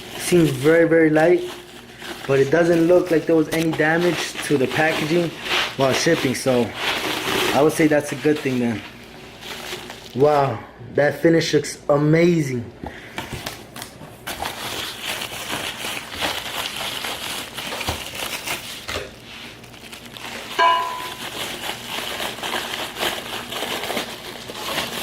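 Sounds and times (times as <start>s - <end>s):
plastic packaging crinkling: 0.0s - 10.5s, 13.2s - 25.0s.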